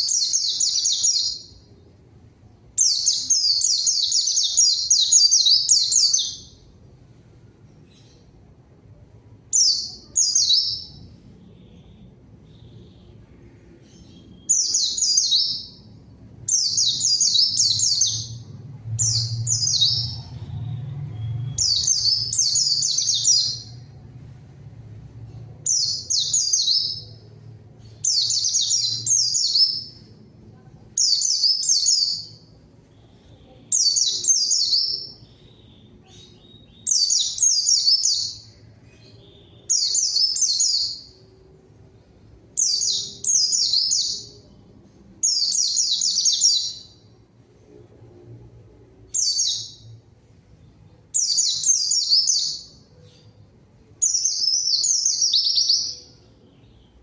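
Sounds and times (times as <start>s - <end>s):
bird singing high warbling phrases: 0.0s - 1.8s, 2.7s - 6.7s, 9.5s - 24.0s, 25.6s - 41.4s, 42.5s - 47.1s, 49.1s - 50.0s, 50.6s - 53.4s, 54.0s - 57.0s.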